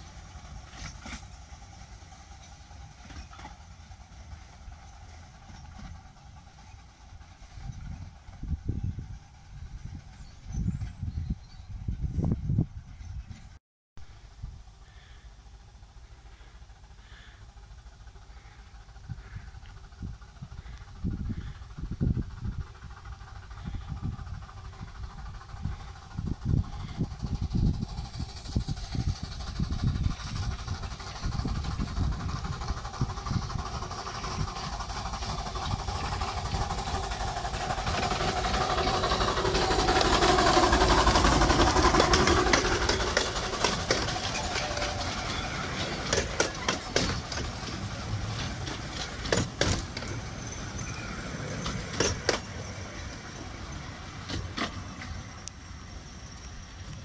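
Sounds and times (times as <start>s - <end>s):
wheels clicking on track: 0.0s - 13.6s, 14.4s - 57.0s
miniature steam locomotive passing: 0.0s - 57.0s.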